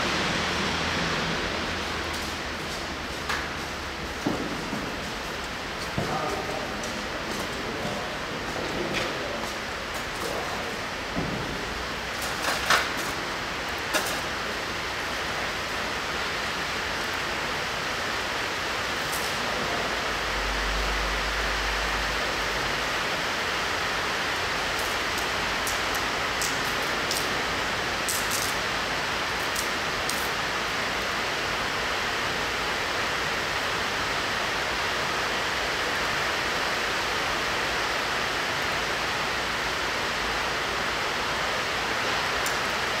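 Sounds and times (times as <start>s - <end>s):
steady hissing noise: 0.0s - 43.0s.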